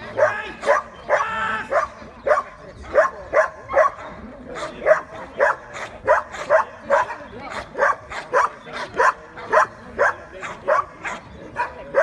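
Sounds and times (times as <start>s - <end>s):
dog barking: 0.1s - 12.0s.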